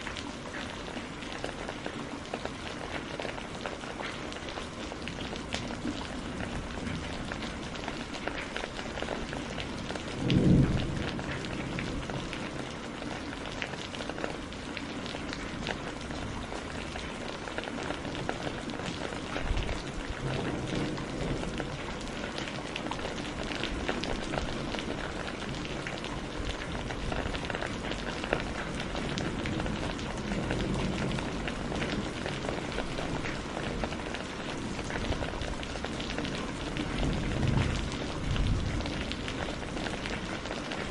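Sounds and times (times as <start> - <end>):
heavy rain pattering: 0.0 - 40.9
thunder rumbling: 5.3 - 14.5, 15.2 - 40.9.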